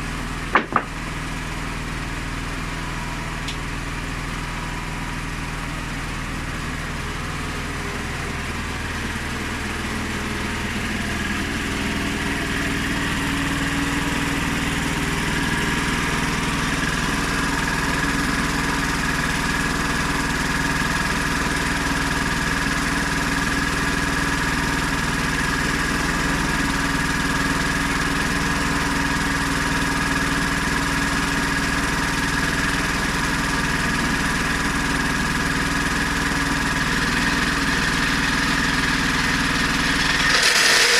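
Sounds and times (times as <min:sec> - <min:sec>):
petrol engine running: 0:00.0 - 0:40.9.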